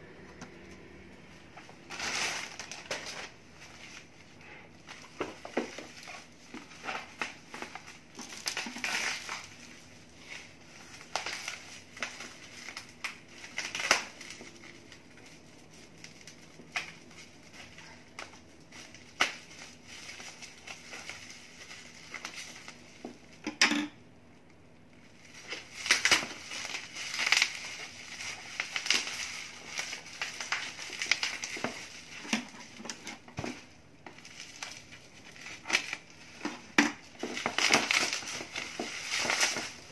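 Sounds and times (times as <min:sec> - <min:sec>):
bubble wrap crinkling: 0:01.3 - 0:23.4, 0:24.3 - 0:39.9.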